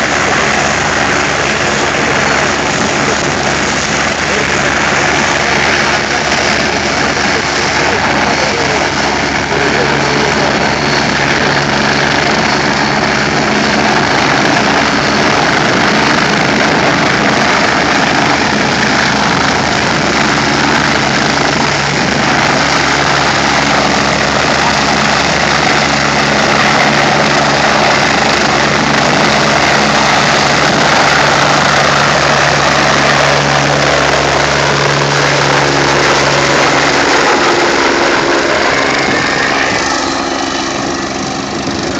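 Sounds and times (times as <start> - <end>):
helicopter turbine hum: 0.0 - 41.9
rotor wash rushing: 0.0 - 41.9.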